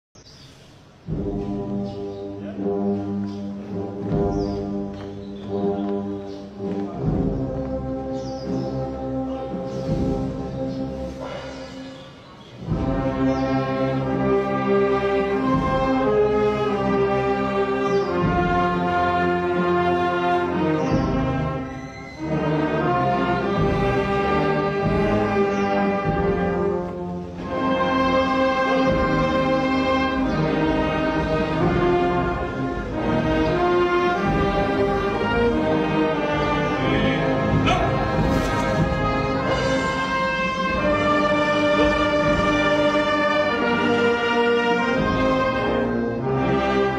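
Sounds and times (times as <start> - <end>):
orchestral music with brass and strings: 0.6 - 46.9.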